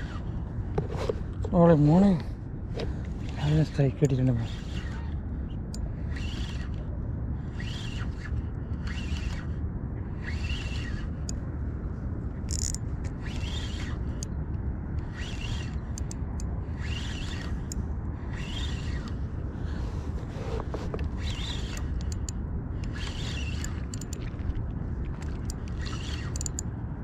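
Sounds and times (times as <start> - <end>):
fishing reel whirring: 0.0 - 0.4, 3.2 - 11.5, 12.4 - 26.8.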